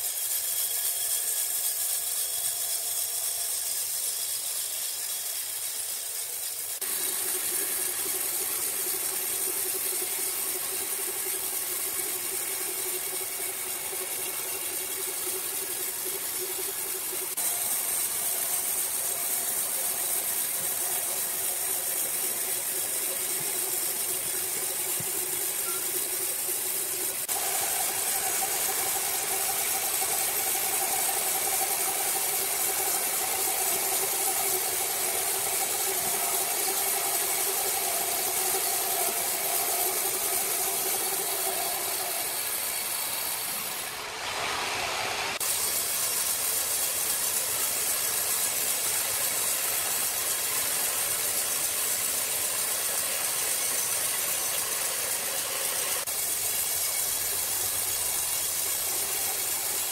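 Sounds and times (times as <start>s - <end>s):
band saw hissing through log: 0.0s - 59.9s
motor hum: 0.0s - 59.9s.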